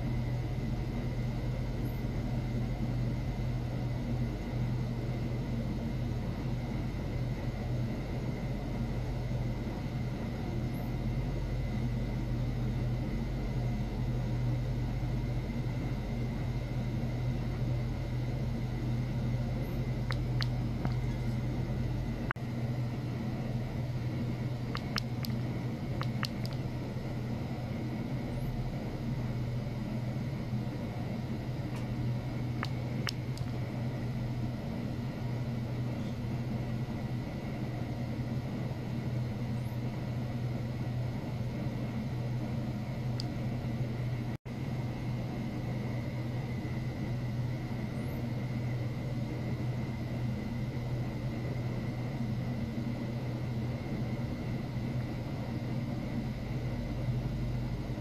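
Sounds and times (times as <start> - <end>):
faint high whine: 0.0 - 58.0
low hum: 0.0 - 58.0.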